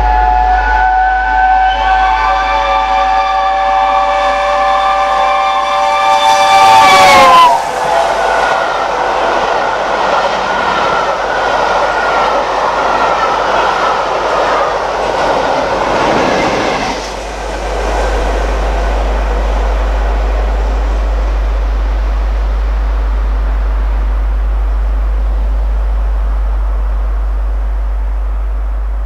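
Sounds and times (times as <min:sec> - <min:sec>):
train wheels rushing on rail: 0:00.0 - 0:23.6
steady low rumble: 0:01.8 - 0:29.0.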